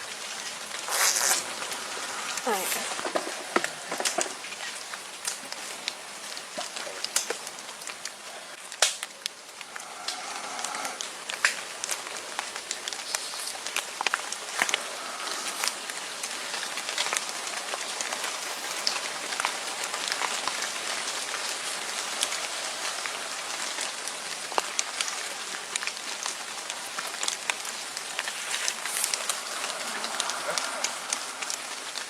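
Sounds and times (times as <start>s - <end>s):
rain patter and ticks: 0.0s - 32.0s.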